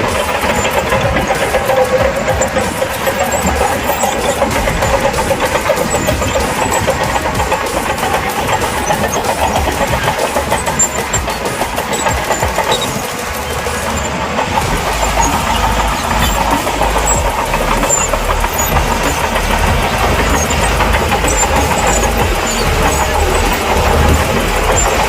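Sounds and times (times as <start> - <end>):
bulldozer diesel engine rumbling: 0.0 - 25.0.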